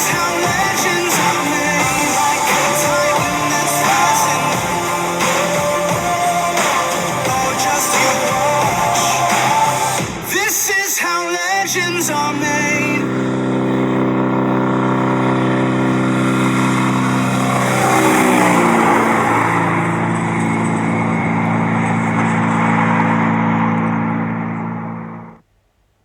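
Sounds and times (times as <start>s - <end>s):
truck engine driving by: 0.0s - 10.1s, 11.6s - 25.4s.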